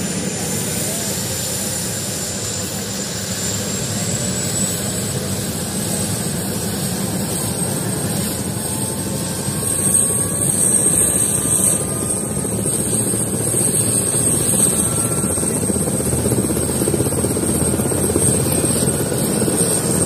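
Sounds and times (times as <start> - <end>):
helicopter turbine and rotor: 0.0 - 20.0
high turbine whine: 0.0 - 20.0.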